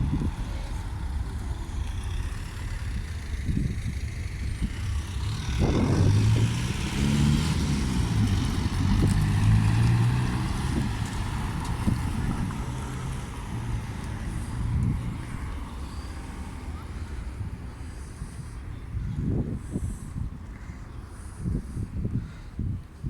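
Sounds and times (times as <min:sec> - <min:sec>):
train diesel engine drone: 0:00.0 - 0:22.0
broad rumbling noise: 0:00.0 - 0:23.0.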